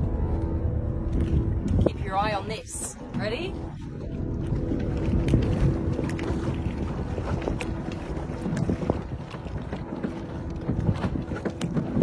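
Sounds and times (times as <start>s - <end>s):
water splashing: 0.0s - 12.0s
wind buffeting microphone: 0.0s - 12.0s.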